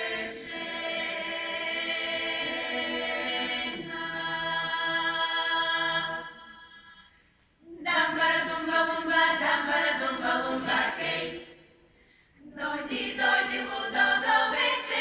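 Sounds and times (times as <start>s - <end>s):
women's choir singing in harmony: 0.0s - 7.1s, 7.7s - 11.8s, 12.4s - 15.0s.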